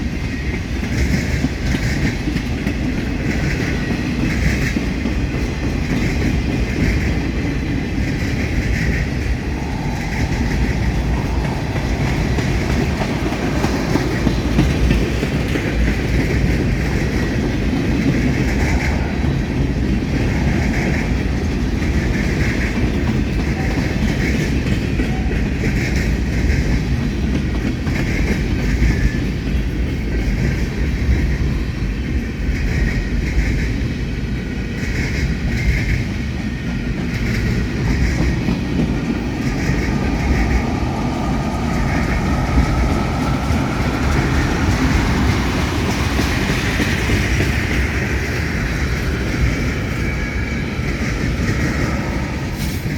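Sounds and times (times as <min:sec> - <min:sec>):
freight train rumbling: 0:00.0 - 0:52.9
train wheels clacking: 0:00.0 - 0:52.9.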